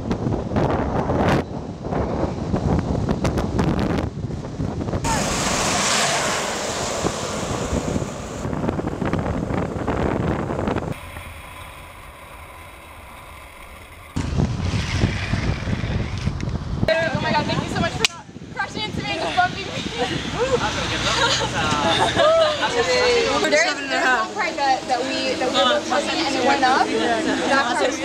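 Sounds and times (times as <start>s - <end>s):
wind buffeting microphone: 0.0s - 23.6s
wheels rolling on asphalt: 0.1s - 28.0s.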